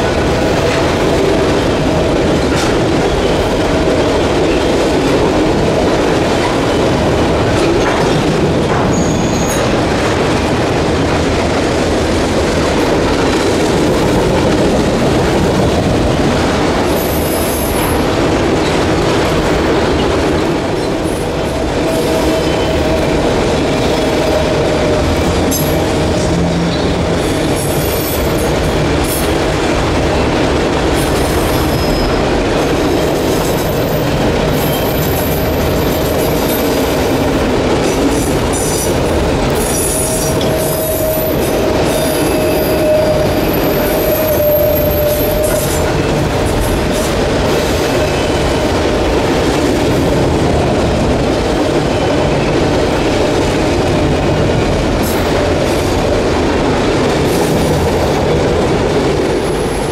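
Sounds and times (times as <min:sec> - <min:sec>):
train wheels rumbling on bridge: 0:00.0 - 0:59.9.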